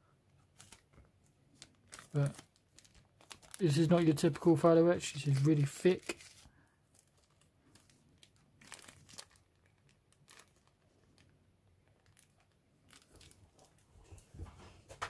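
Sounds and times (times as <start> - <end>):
plastic bag crinkling: 1.5 - 13.9.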